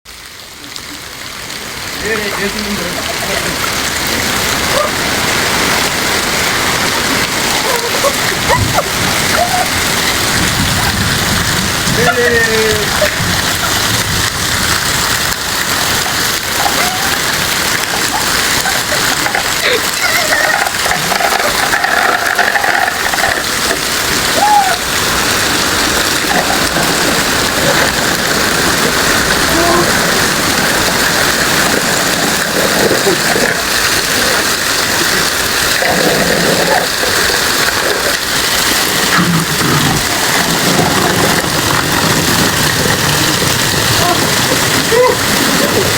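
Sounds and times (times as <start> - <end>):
heavy rain hissing: 0.1 - 45.9.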